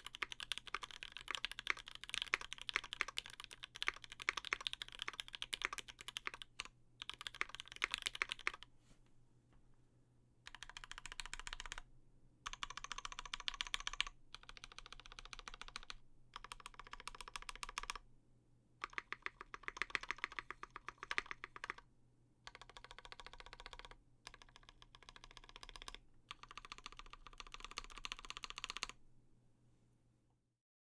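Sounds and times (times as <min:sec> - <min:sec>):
mechanical keyboard typing: 0:00.0 - 0:08.6, 0:10.5 - 0:11.8, 0:12.4 - 0:18.0, 0:18.8 - 0:21.8, 0:22.4 - 0:29.0.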